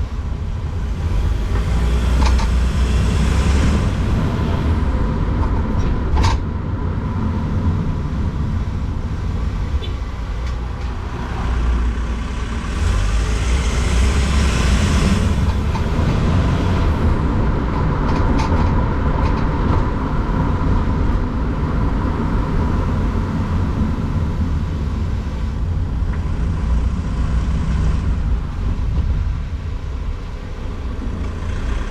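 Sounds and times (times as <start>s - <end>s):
van engine rumble: 0.0s - 31.9s.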